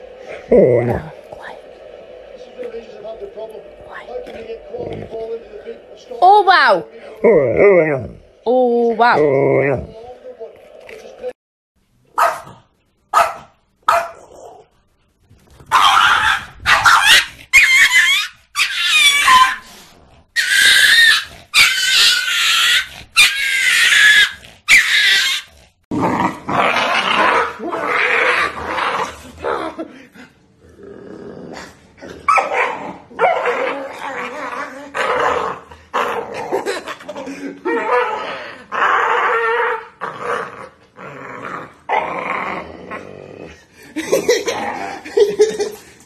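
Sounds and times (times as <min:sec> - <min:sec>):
dogs barking and growling: 0:00.0 - 0:02.9, 0:03.6 - 0:11.2, 0:12.1 - 0:46.0.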